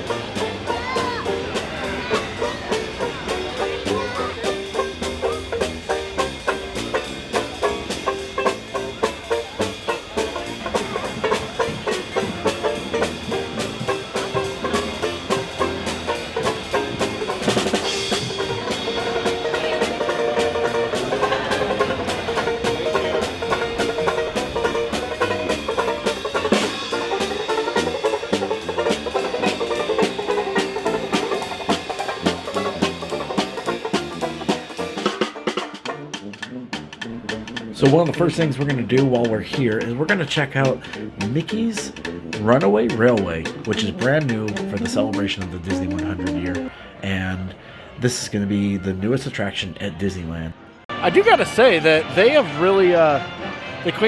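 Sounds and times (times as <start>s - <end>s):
upbeat instrumental music: 0.0s - 47.2s, 50.8s - 54.0s.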